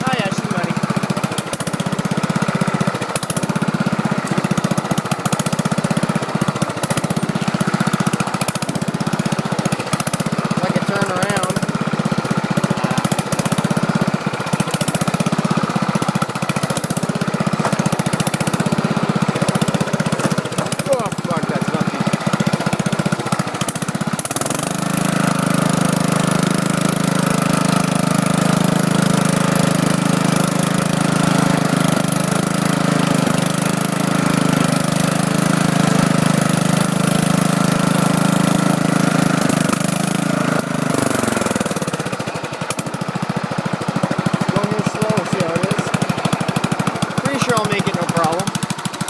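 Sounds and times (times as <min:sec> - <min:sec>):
lawn tractor engine running: 0:00.0 - 0:49.0.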